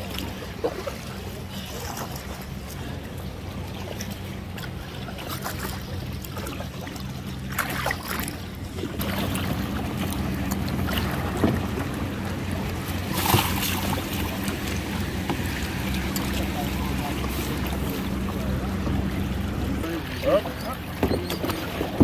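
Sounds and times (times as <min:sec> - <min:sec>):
paddle splashing: 0:00.0 - 0:22.0
water lapping against hull: 0:00.0 - 0:22.0.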